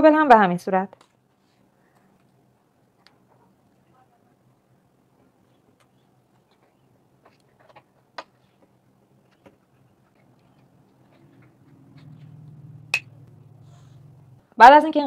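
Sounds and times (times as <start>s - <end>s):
low steady hum: 0.9s - 15.0s.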